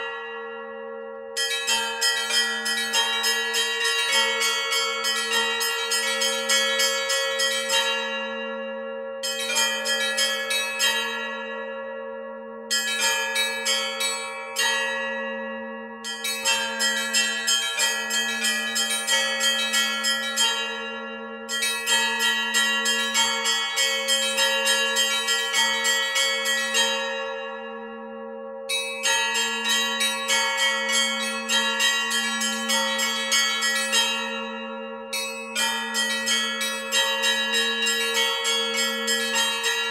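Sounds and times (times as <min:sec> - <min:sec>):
small bells struck in fast phrases: 0:00.0 - 0:08.4, 0:09.2 - 0:11.6, 0:12.7 - 0:15.3, 0:16.0 - 0:39.9
hum of large bells: 0:00.0 - 0:39.9.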